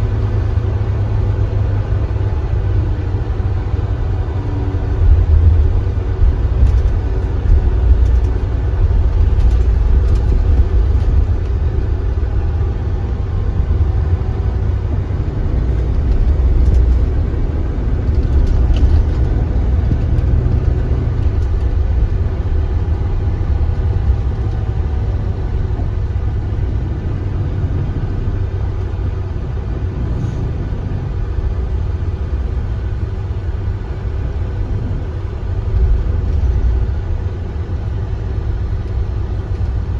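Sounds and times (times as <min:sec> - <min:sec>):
coach engine rumbling: 0:00.0 - 0:39.9.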